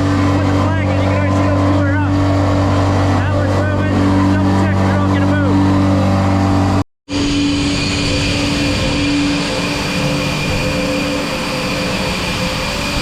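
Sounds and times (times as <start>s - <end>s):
farm machinery droning: 0.0s - 13.0s.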